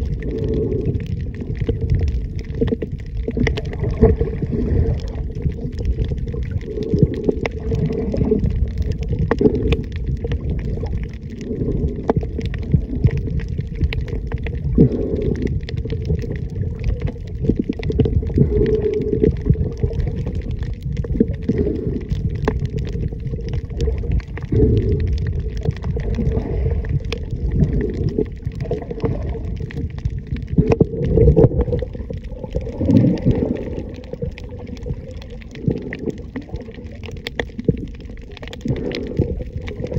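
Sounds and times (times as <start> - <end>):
muffled underwater rumble: 0.0 - 39.9
underwater clicks and crackles: 0.0 - 39.9.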